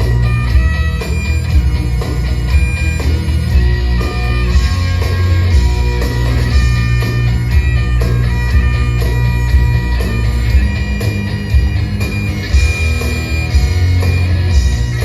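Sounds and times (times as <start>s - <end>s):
celtic rock music: 0.0s - 15.0s.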